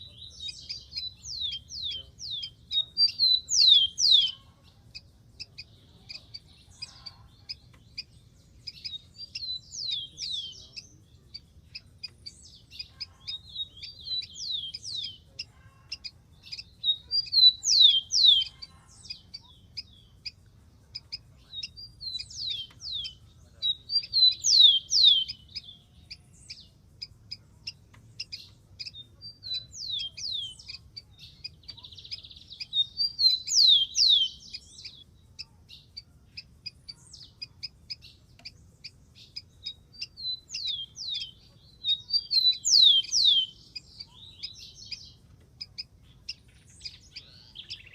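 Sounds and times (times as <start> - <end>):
sparrow singing: 0.0 - 47.9.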